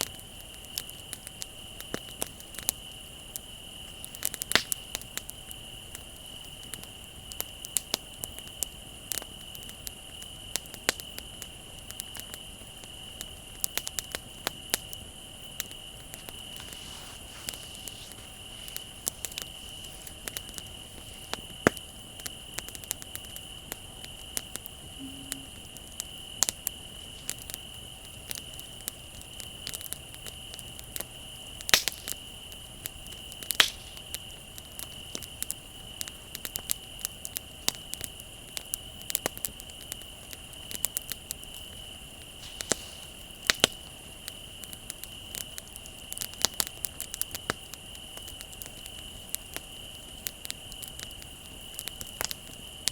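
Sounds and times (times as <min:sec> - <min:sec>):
bonfire crackling and popping: 0:00.0 - 0:52.9
crickets trilling: 0:00.0 - 0:52.9.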